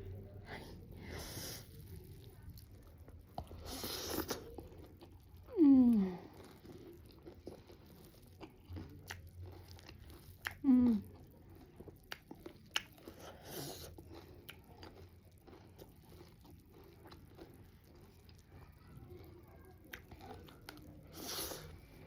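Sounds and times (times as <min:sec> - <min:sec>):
chewing crunchy snack: 0:01.4 - 0:22.0.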